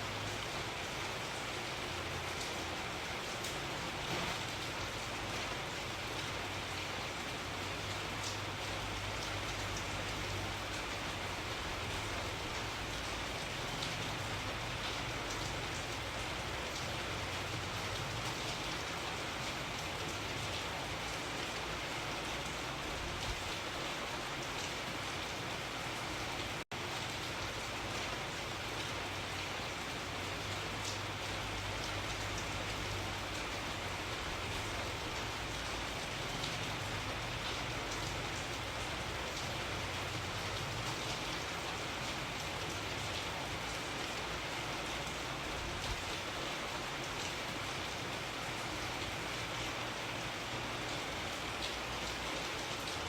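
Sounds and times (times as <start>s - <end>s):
rain hiss on surfaces: 0.0s - 53.0s.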